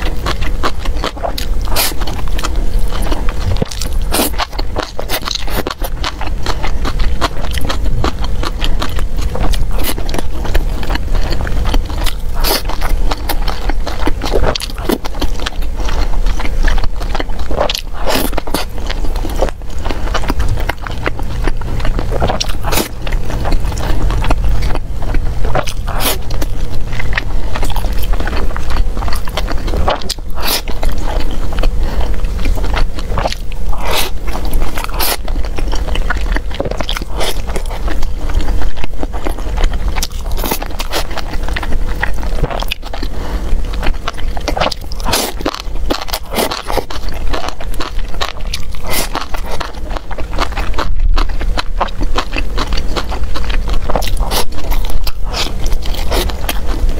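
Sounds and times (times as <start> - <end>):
chewing food: 0.0 - 56.9.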